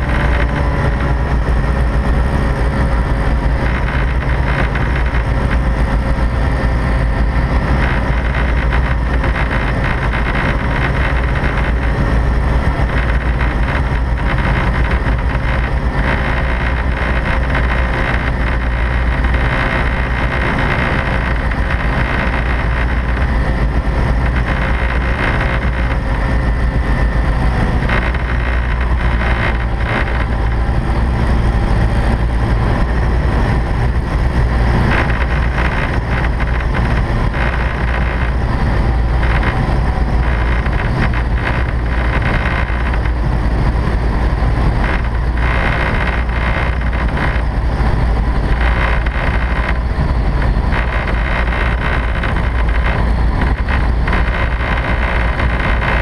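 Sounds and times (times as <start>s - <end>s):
aircraft engine and propeller droning: 0.0s - 56.0s.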